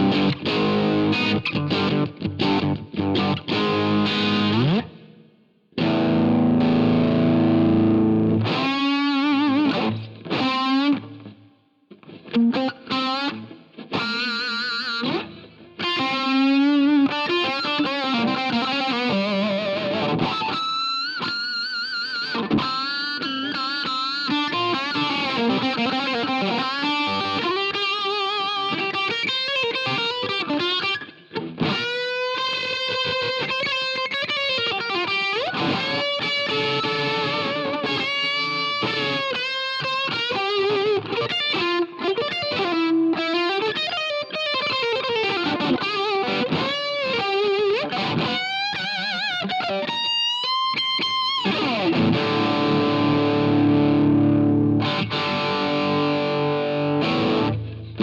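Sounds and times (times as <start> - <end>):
overdriven electric guitar: 0.0 - 58.0.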